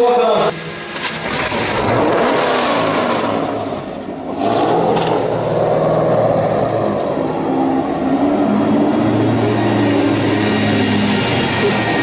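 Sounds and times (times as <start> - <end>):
car engine revving hard: 1.2 - 12.0.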